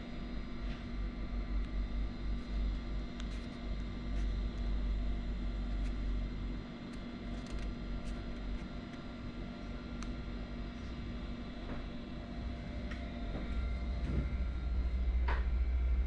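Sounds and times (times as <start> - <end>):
room noise hum: 0.0 - 16.0.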